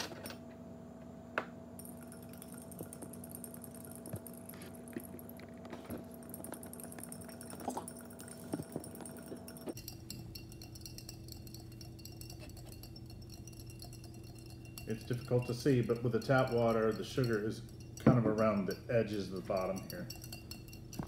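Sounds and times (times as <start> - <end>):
spoon clinking against glass jar: 1.8 - 5.3, 6.2 - 21.0.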